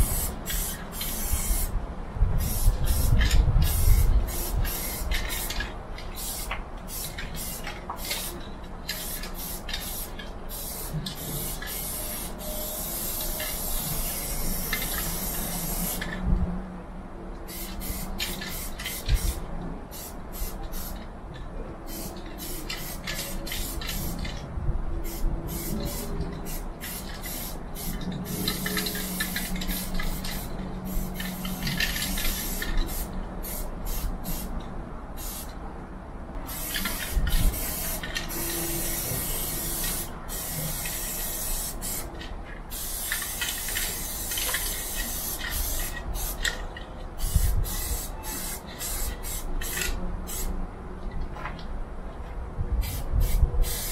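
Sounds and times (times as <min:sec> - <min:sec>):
spray-paint can hissing: 0:00.0 - 0:01.7, 0:02.4 - 0:16.1, 0:17.5 - 0:21.0, 0:21.9 - 0:24.3, 0:25.0 - 0:34.5, 0:35.2 - 0:35.5, 0:36.5 - 0:42.1, 0:42.7 - 0:46.6, 0:47.2 - 0:50.5, 0:52.8 - 0:53.9.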